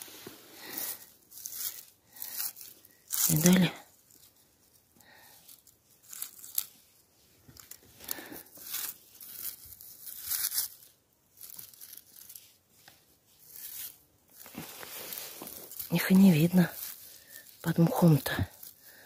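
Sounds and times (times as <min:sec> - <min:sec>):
moss and forest litter rustling: 0:00.0 - 0:19.0.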